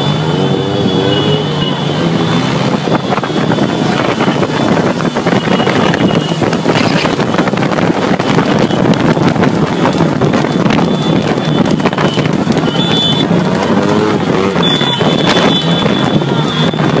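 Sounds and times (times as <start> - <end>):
scooter and motorbike engines: 0.0 - 17.0
wind buffeting microphone: 0.0 - 17.0.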